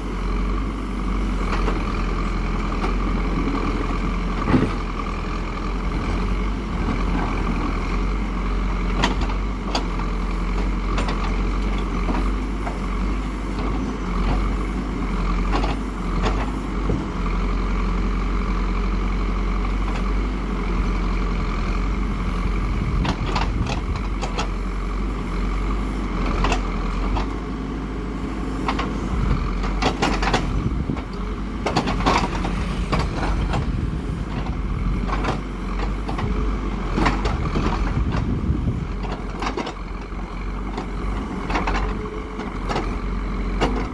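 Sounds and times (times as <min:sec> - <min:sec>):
diesel construction machine running: 0:00.0 - 0:43.9.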